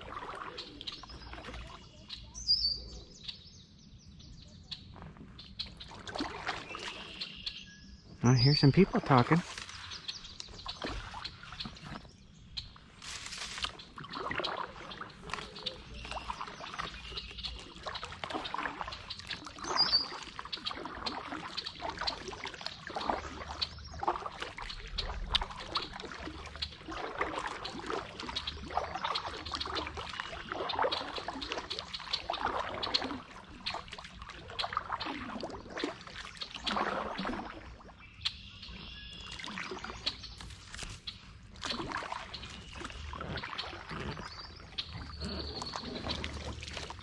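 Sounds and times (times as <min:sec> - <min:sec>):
water dripping off paddle: 0:00.0 - 0:02.5, 0:05.0 - 0:07.6, 0:08.6 - 0:47.0
paddle splashing in water: 0:00.0 - 0:02.8, 0:04.8 - 0:47.0.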